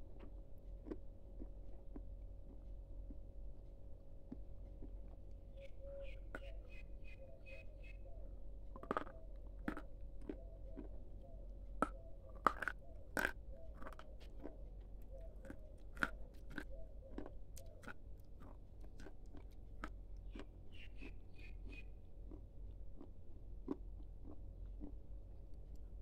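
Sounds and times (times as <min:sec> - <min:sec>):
chewing crunchy food: 0:00.0 - 0:26.0.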